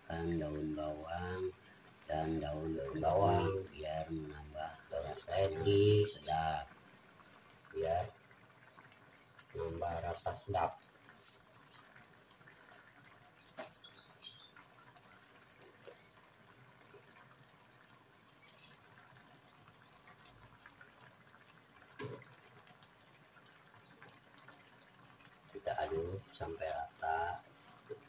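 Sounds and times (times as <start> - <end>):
fish simmering in a wok: 0.0 - 28.0.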